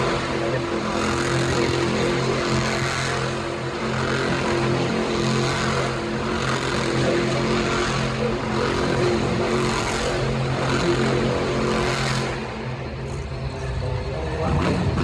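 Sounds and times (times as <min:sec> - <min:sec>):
truck engine running hard: 0:00.0 - 0:15.0.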